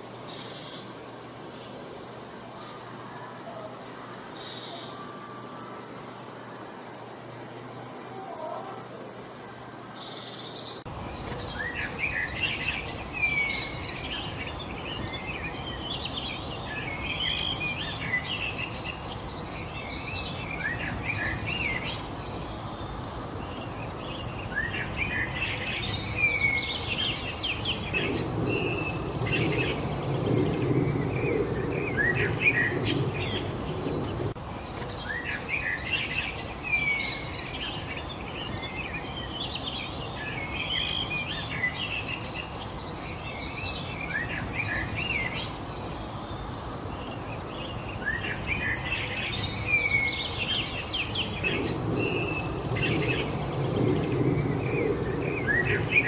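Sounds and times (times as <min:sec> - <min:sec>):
birds singing and chirping: 0:00.0 - 0:56.0
outdoor background hiss: 0:00.0 - 0:56.0.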